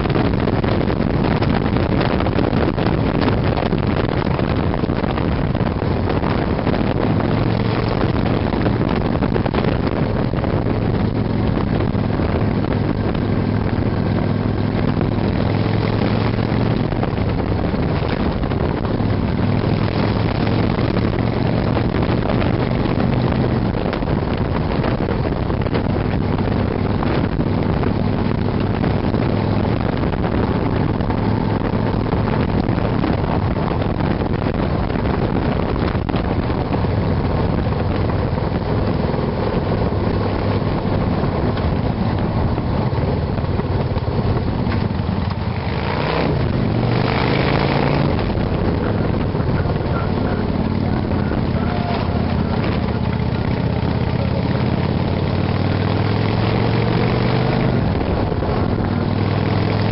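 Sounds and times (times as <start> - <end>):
motorcycle engine drone: 0.0 - 59.9
road noise: 0.0 - 59.9
wind rush on microphone: 0.0 - 59.9.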